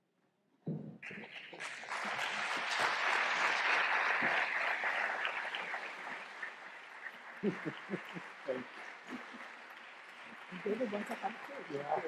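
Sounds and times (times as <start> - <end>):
audience applauding: 1.0 - 12.0.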